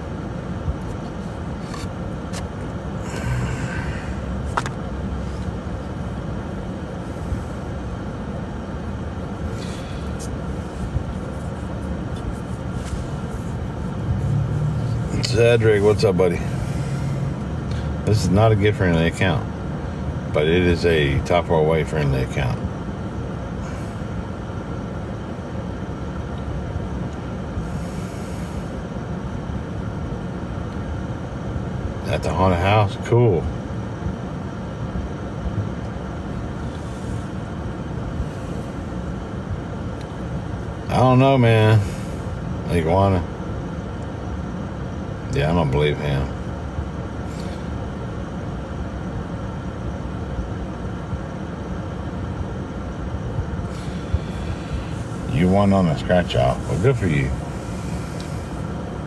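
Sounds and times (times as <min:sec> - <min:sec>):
low background rumble: 0:00.0 - 0:59.0.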